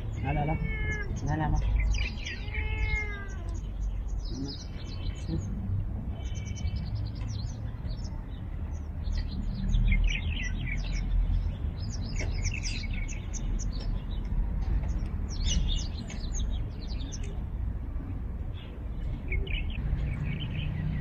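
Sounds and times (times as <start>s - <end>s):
small birds chirping: 0.0s - 17.8s, 18.4s - 21.0s.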